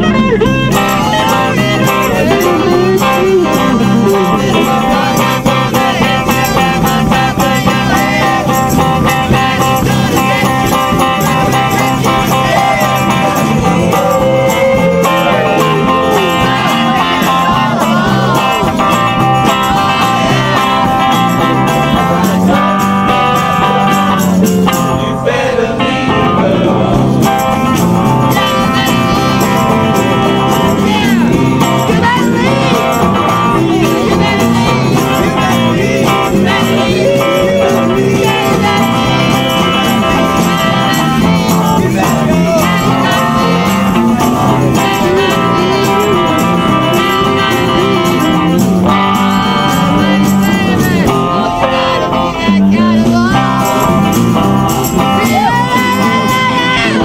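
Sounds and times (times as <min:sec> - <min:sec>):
group of voices singing: 0:00.0 - 0:57.0
guitars strummed: 0:00.0 - 0:57.0
lead singer singing: 0:00.5 - 0:57.0.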